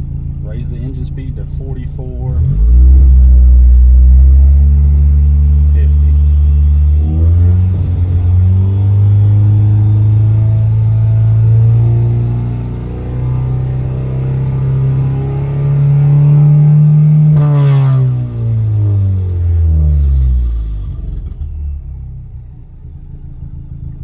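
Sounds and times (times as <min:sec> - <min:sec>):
car engine revving high: 0:00.0 - 0:24.0.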